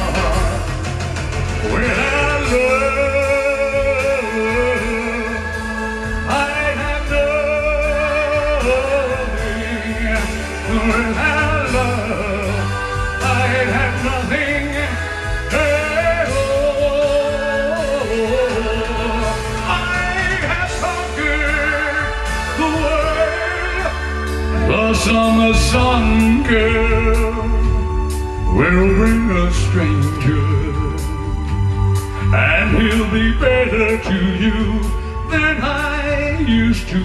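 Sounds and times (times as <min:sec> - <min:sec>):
band backing track: 0:00.0 - 0:37.0
person singing with vibrato: 0:00.0 - 0:37.0.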